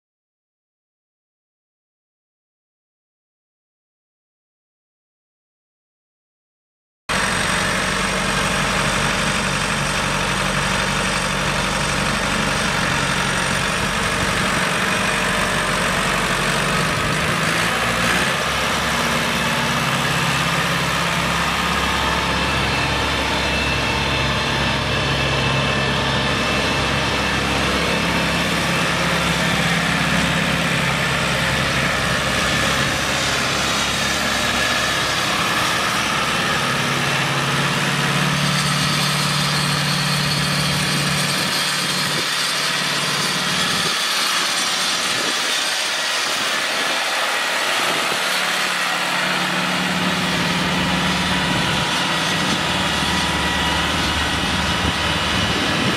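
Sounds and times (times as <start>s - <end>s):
tractor diesel engine idling: 7.1s - 55.9s.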